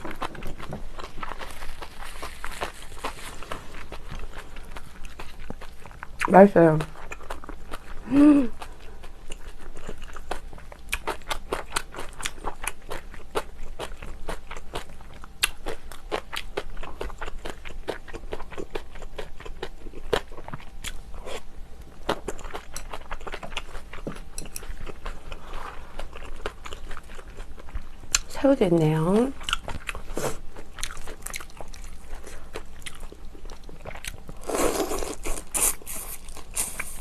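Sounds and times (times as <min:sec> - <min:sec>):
person chewing crunchy food: 0:00.0 - 0:28.3, 0:29.3 - 0:37.0.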